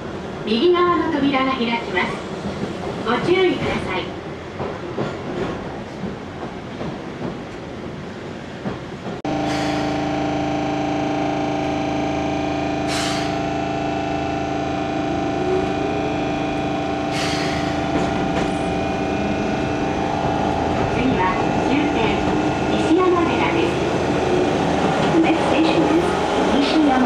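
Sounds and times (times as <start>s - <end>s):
electric hum of train: 0.0s - 27.0s
train rumbling: 0.0s - 27.0s.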